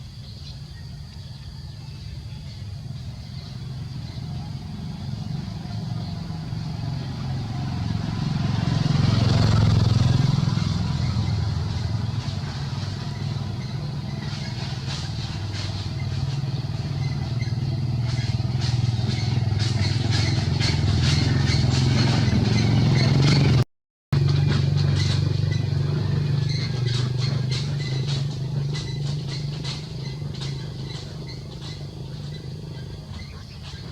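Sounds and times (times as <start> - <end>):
motor engine running: 0.0 - 33.9.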